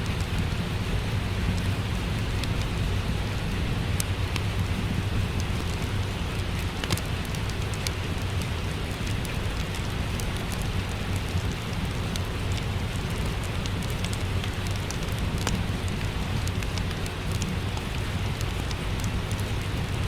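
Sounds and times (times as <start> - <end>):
steady rain hiss: 0.0 - 20.0
wood fire popping and crackling: 0.0 - 20.0.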